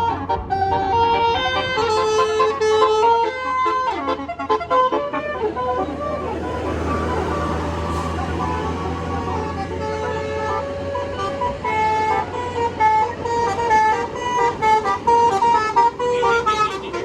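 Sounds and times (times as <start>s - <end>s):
bus musical horn: 0.0s - 17.0s
engine hum: 0.0s - 17.0s.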